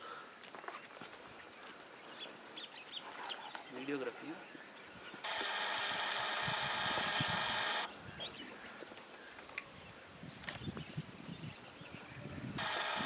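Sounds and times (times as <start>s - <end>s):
insect drone: 0.0s - 13.0s
outdoor background: 0.0s - 13.0s.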